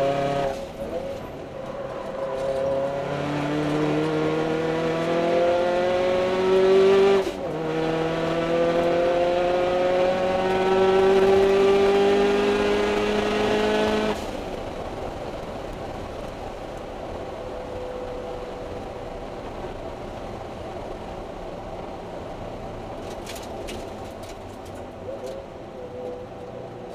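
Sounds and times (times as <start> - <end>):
car engine under full throttle: 0.0 - 26.9.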